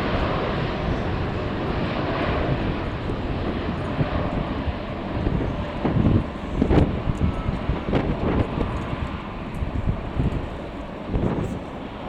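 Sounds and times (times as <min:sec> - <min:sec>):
jet engines running: 0:00.0 - 0:12.0
wind buffeting microphone: 0:00.0 - 0:12.0.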